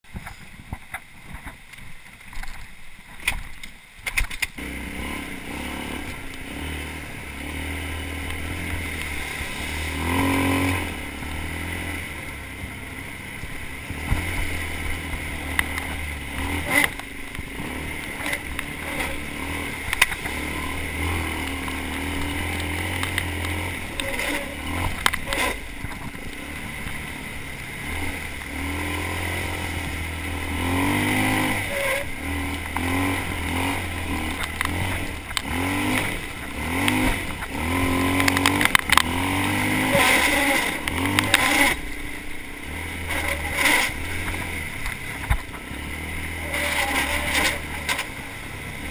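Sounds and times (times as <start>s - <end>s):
atv engine running under load: 4.1s - 48.9s.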